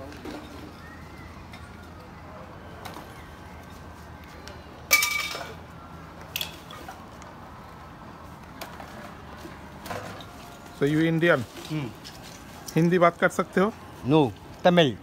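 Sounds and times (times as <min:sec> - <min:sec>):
busy street background: 0:00.0 - 0:15.0.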